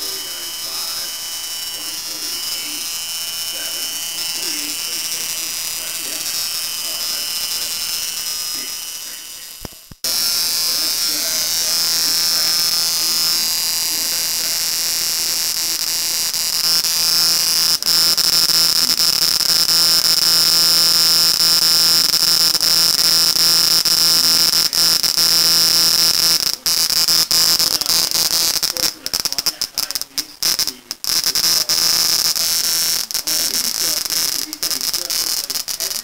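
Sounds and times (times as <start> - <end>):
high-pitched electric spark buzz: 0.0 - 36.0.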